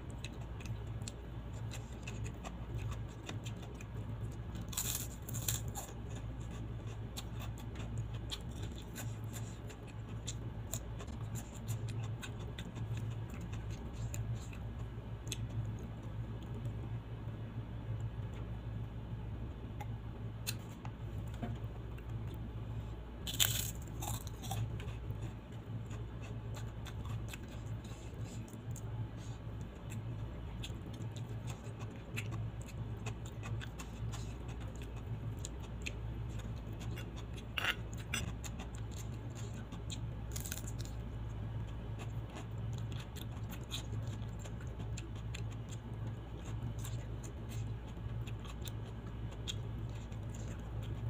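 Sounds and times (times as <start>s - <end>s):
chewing: 0.0s - 16.7s, 23.3s - 51.0s
steady low hum: 0.0s - 51.0s
food crunching: 0.1s - 16.7s, 23.3s - 51.0s.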